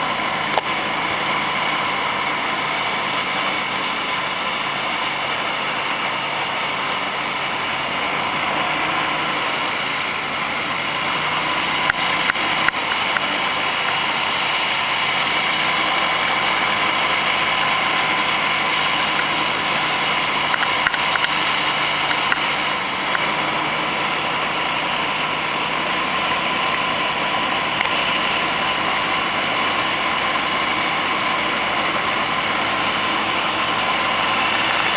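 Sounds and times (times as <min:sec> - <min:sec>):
mud motor running: 0:00.0 - 0:34.9
water rushing: 0:00.0 - 0:34.9.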